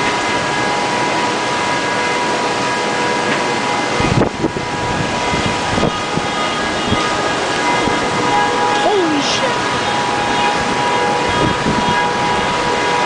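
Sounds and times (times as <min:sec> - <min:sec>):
river rushing: 0:00.0 - 0:13.0
strong wind: 0:00.0 - 0:13.0
wind buffeting microphone: 0:00.0 - 0:13.0.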